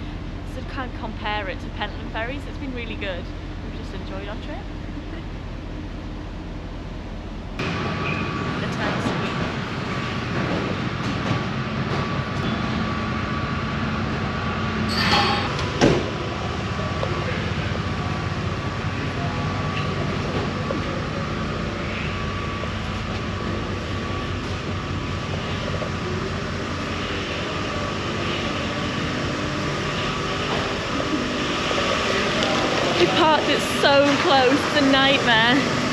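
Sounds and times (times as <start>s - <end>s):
ferry machinery rumble: 0.0s - 35.9s.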